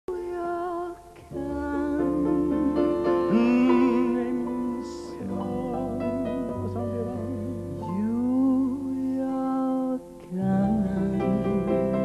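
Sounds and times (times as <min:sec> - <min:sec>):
woman singing: 0:00.0 - 0:12.0
instrumental backing: 0:00.1 - 0:12.0.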